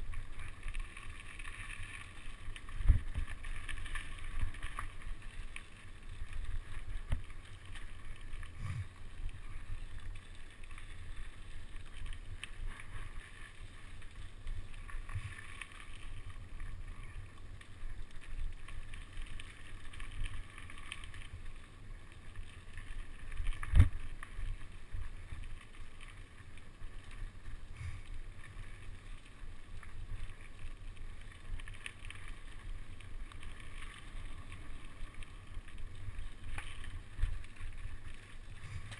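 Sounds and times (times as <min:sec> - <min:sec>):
bike tyres rumbling on dirt: 0:00.0 - 0:38.9.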